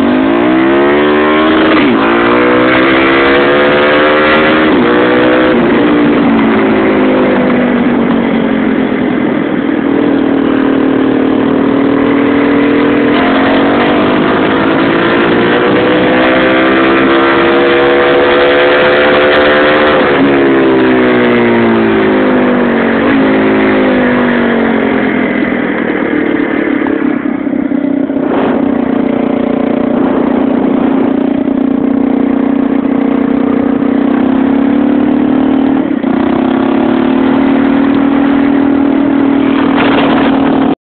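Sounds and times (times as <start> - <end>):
motorcycle engine revving: 0.0 - 40.8.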